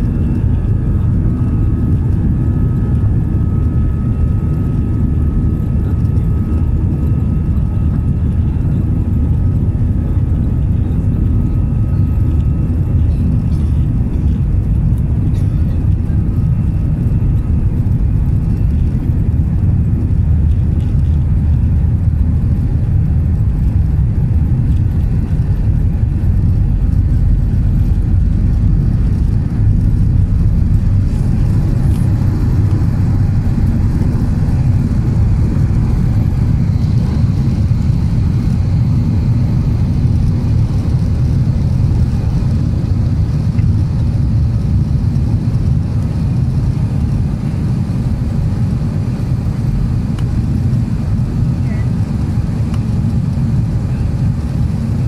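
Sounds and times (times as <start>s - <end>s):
takeoff roll rumble: 0.0s - 47.2s
jet engines at takeoff power: 0.0s - 55.0s.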